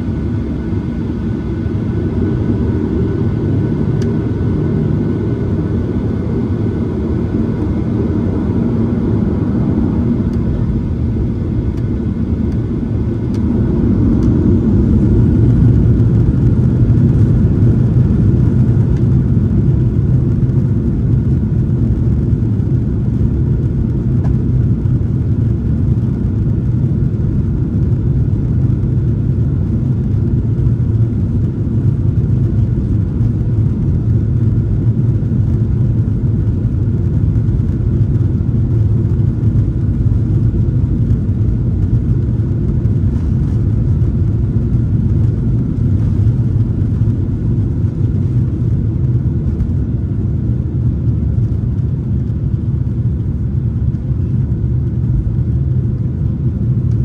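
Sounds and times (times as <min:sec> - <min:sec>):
jet cabin engine rumble: 0:00.0 - 0:57.0.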